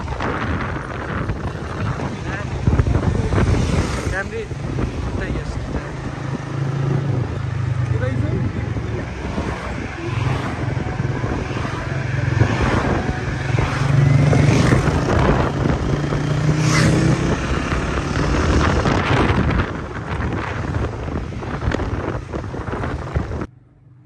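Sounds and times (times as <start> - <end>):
traffic passing: 0.0 - 24.0
vehicle engine and road noise: 0.0 - 24.0
motorcycle passing: 0.2 - 23.4.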